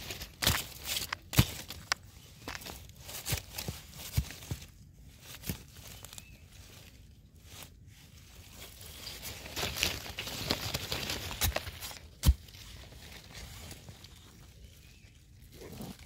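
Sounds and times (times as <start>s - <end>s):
hands rustling in soil: 0.0s - 16.0s.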